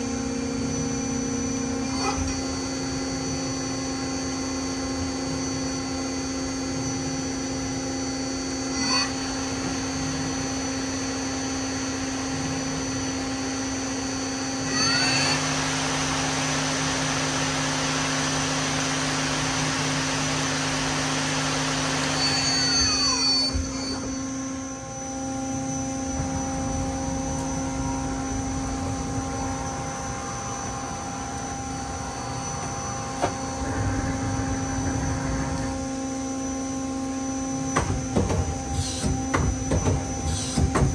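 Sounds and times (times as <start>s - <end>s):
lathe running with steady hum: 0.0s - 40.9s
spindle whine: 0.0s - 40.9s.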